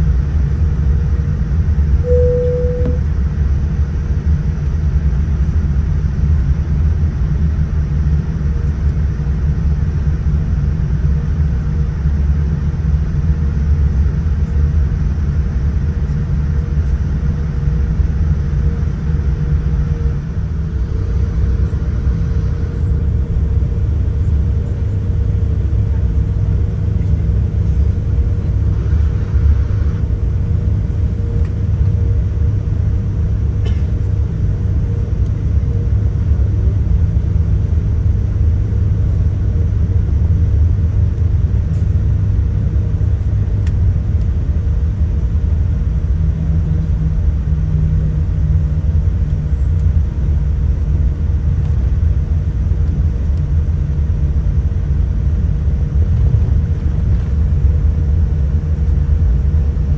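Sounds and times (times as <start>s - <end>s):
aircraft cabin rumble: 0.0s - 59.9s
faint steady hum: 0.0s - 59.9s.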